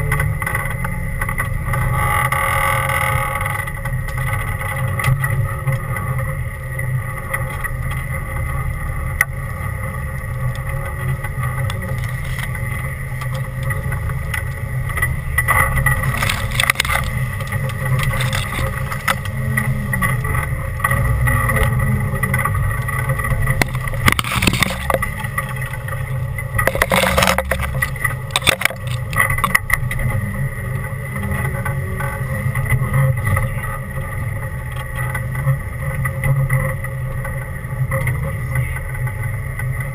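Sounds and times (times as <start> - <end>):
noisy clatters: 0.0 - 39.9
off-road vehicle engine rumbling: 0.0 - 39.9
thin steady whine: 0.0 - 39.9.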